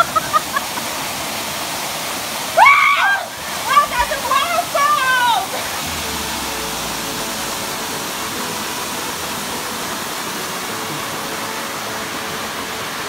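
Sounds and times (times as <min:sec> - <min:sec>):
waterfall over rocks: 0:00.0 - 0:13.0.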